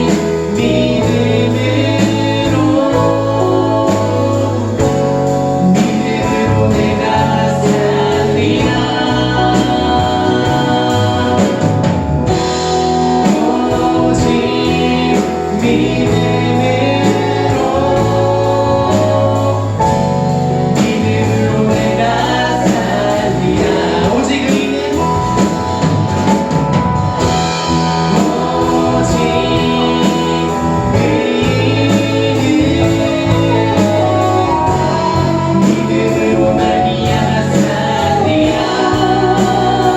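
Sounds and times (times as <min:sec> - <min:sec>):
band accompaniment: 0:00.0 - 0:39.9
voices singing: 0:00.0 - 0:39.9.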